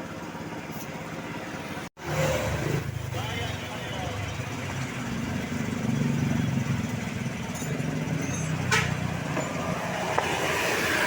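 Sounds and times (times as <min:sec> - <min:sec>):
passing vehicle engines: 0:01.6 - 0:11.0.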